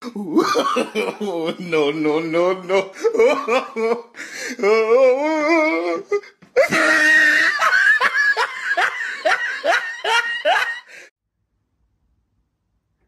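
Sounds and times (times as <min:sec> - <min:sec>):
person laughing hard: 0:00.0 - 0:11.1.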